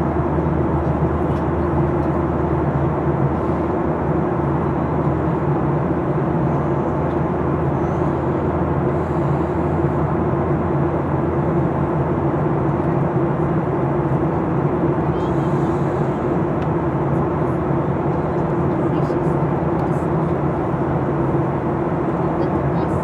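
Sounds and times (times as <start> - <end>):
jet engine drone: 0.0 - 23.0.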